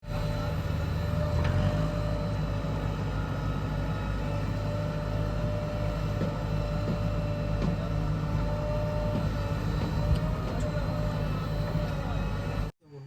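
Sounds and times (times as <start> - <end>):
heavy diesel engine running: 0.0 - 12.7
thin steady whine: 0.0 - 13.0.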